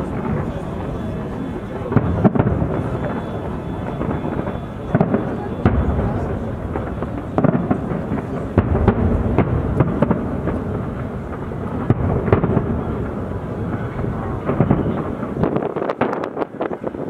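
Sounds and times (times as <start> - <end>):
fireworks booming: 0.0 - 17.0
fireworks crackling: 0.0 - 17.0
fireworks sharp bangs: 0.0 - 17.0.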